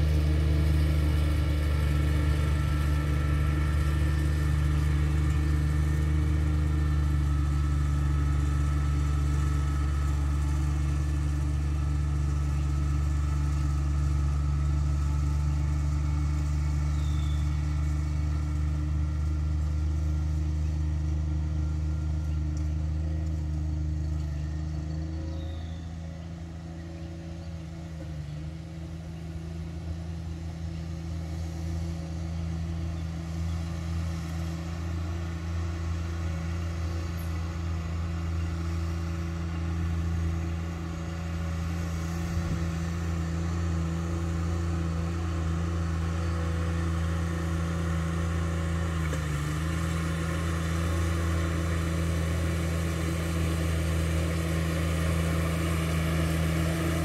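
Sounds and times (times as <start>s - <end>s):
ride-on mower engine running: 0.0s - 57.0s.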